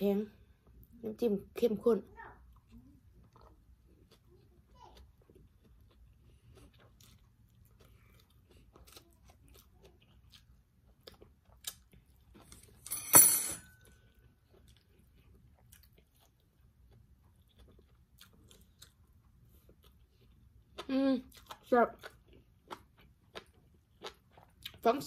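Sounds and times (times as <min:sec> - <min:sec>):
person chewing food: 0:02.4 - 0:12.8, 0:13.7 - 0:24.9.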